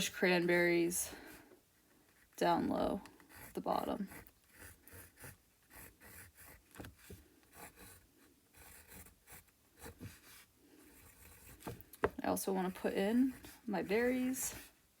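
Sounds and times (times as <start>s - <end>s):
drawing tool scratching canvas: 2.1s - 14.8s.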